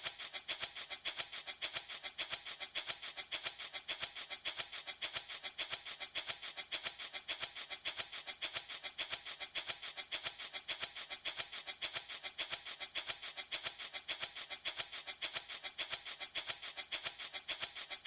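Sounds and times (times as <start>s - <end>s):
baby rattle shaking: 0.0s - 18.0s.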